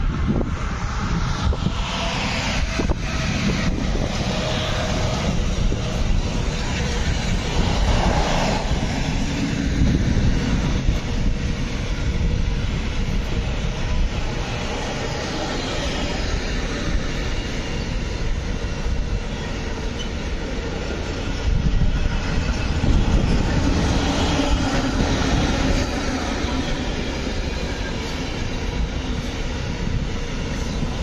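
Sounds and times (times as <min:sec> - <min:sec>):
freight train wagons rolling: 0:01.8 - 0:31.0.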